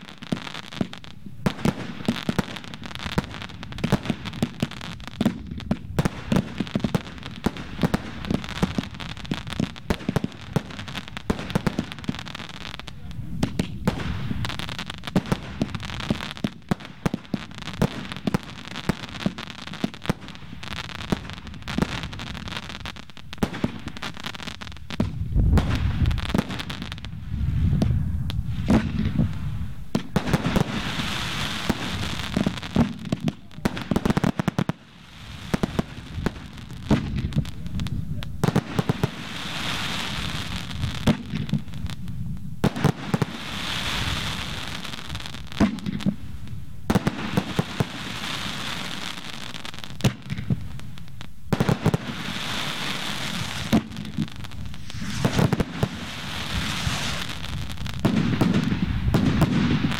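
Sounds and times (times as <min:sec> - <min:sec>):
fireworks booms: 0:00.0 - 0:59.9
fireworks hissing crackle: 0:00.0 - 0:59.9
fireworks popping and banging: 0:00.0 - 0:59.9.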